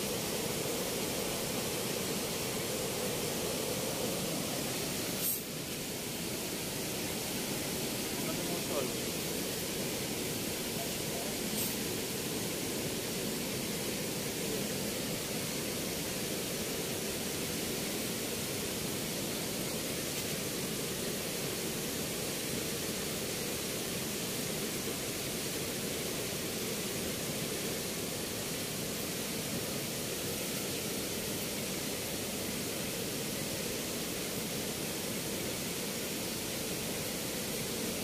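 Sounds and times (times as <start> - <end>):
water rushing through sluice gates: 0.0 - 38.0.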